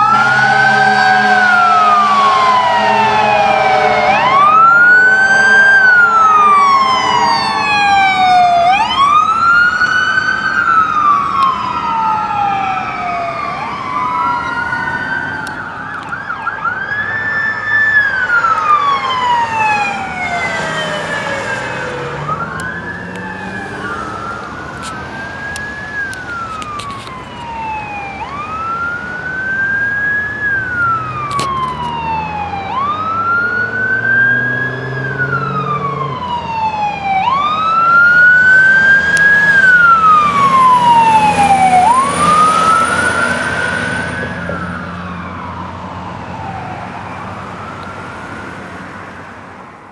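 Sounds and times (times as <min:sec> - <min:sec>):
emergency sirens wailing: 0:00.0 - 0:49.9.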